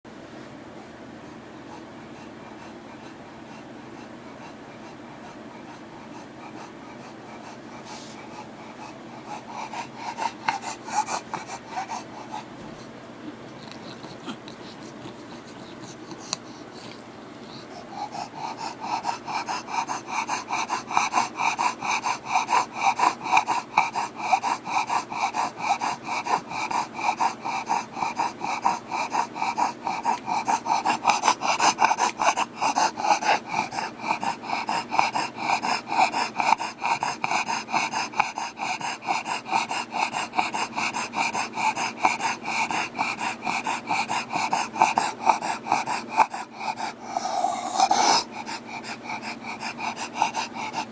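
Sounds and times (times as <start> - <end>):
dog breathing heavily: 0.8 - 50.9.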